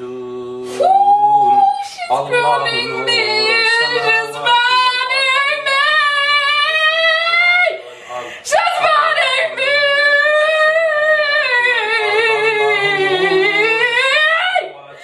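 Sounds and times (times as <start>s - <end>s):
high voice chanting: 0.0s - 15.0s
man chanting: 0.0s - 15.0s.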